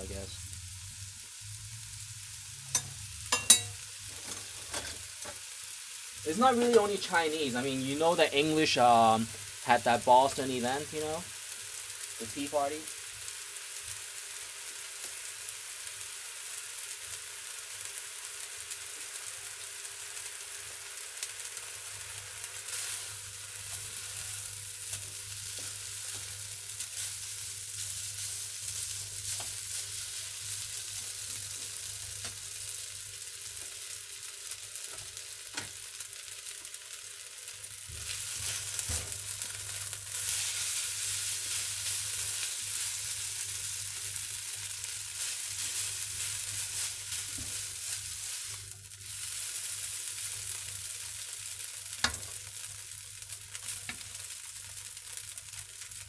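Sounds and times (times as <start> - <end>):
noodles sizzling in a wok: 0.0 - 56.0.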